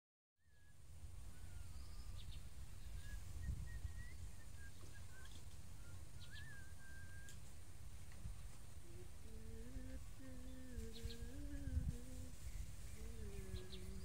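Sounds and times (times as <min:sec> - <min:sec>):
birds calling and chirping: 0:00.4 - 0:14.0
faint high hiss: 0:00.4 - 0:14.0.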